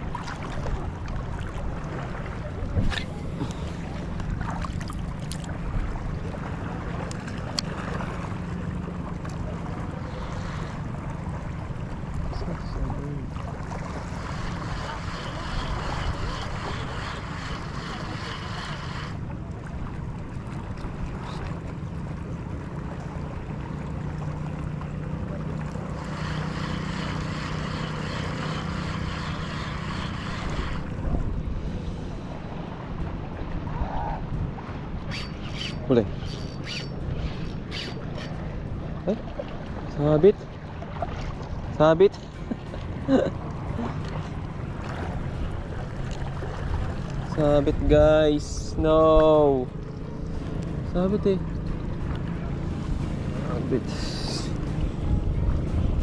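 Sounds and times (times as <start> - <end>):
boat diesel engine running: 0.0 - 33.5, 34.6 - 56.0
water noise: 0.0 - 56.0
wind: 0.0 - 56.0.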